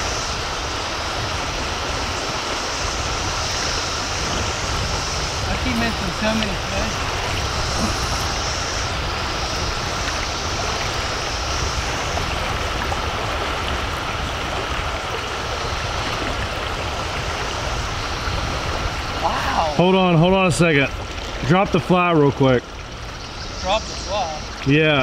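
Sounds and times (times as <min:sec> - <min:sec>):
river rushing over rocks: 0:00.0 - 0:20.2
cicadas droning: 0:00.0 - 0:25.0.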